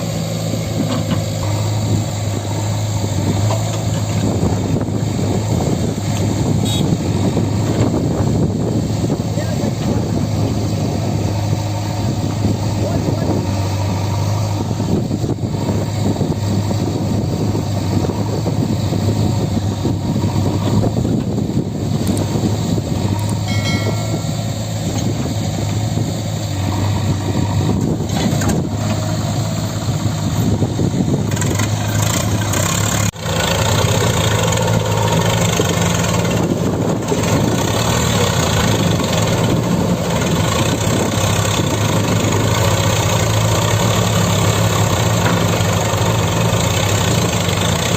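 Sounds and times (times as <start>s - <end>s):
heavy diesel machinery engine: 0.0s - 47.9s.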